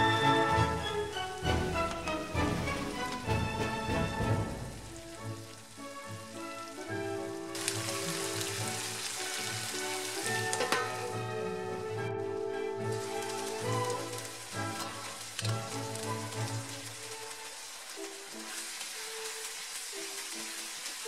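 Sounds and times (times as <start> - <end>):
background music with sustained notes: 0.0 - 21.0
stir-fry sizzling in a frying pan: 0.0 - 21.0.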